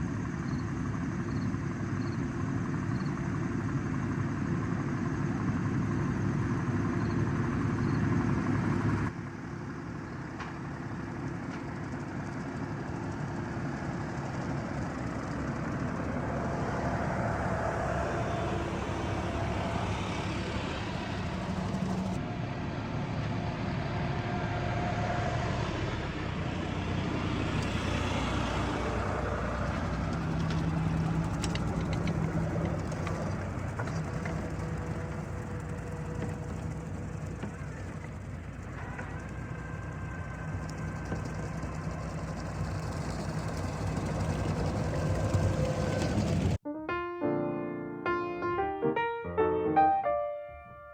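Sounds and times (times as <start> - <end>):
tractor engine running: 0.0 - 23.0, 25.5 - 46.6.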